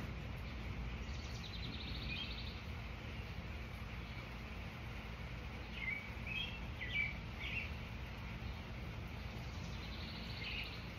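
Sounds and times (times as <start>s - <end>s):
low outdoor hum: 0.0s - 10.9s.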